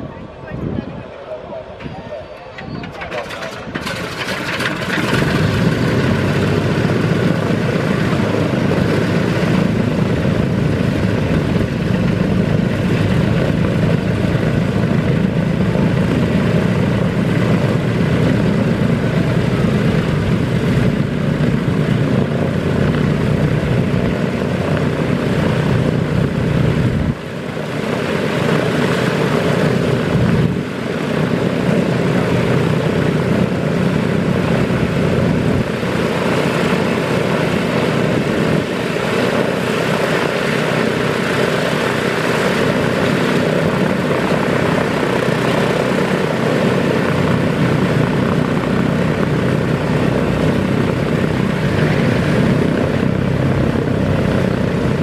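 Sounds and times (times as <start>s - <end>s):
propeller engine running: 0.0s - 55.0s.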